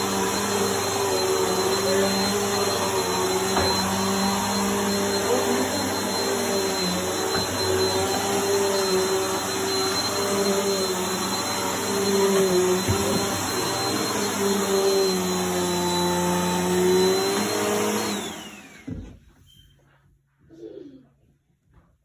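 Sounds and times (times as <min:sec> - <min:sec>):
vacuum cleaner whining hum: 0:00.0 - 0:19.2.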